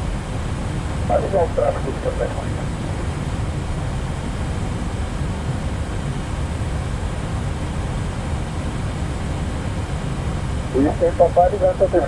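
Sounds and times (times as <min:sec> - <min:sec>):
low cabin rumble: 0:00.0 - 0:12.0.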